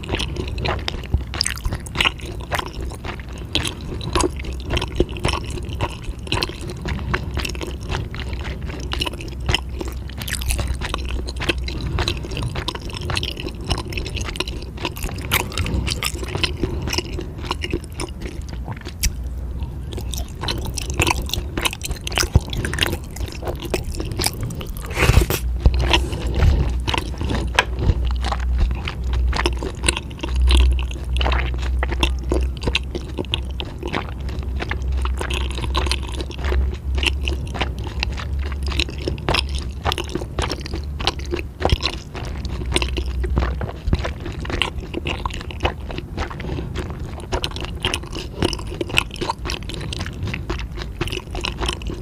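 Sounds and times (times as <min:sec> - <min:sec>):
person chewing and crunching food: 0:00.0 - 0:52.0.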